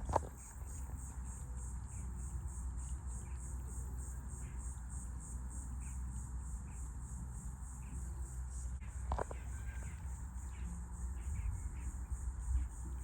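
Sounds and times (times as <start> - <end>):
insect chorus pulsing: 0.0 - 13.0.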